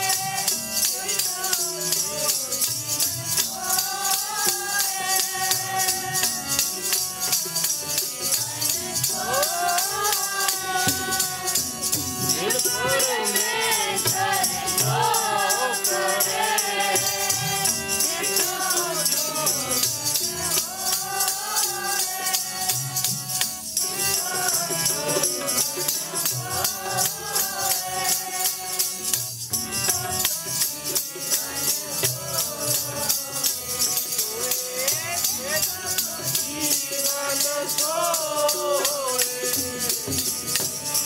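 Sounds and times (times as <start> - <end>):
fast percussion beat: 0.0 - 41.0
voices singing a hymn: 0.0 - 41.0.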